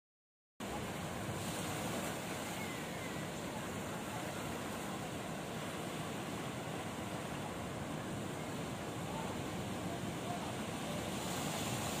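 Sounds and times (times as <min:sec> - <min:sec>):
waves washing over rocky shore: 0:00.6 - 0:12.0.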